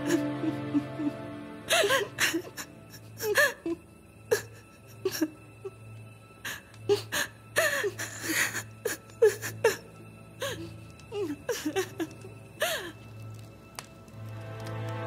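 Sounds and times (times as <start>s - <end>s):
woman sobbing: 0.0s - 5.8s, 6.4s - 13.1s
soft background music: 0.0s - 15.0s.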